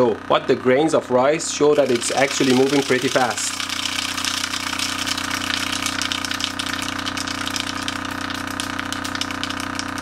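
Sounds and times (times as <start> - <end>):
subwoofer buzzing low tone: 0.0 - 10.0
rice rattling on speaker cone: 1.7 - 10.0.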